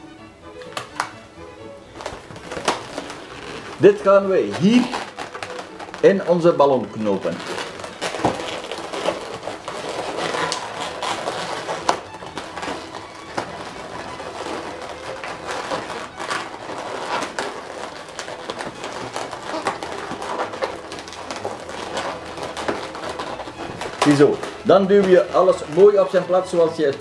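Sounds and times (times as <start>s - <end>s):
balloons squeaking: 0.0s - 27.0s.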